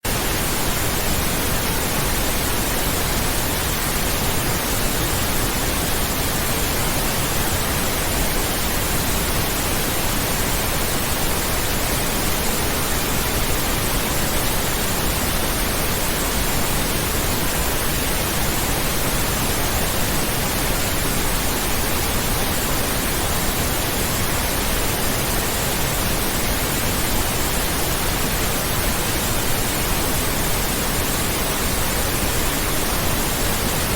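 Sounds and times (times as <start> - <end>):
pink noise hiss: 0.0 - 33.9.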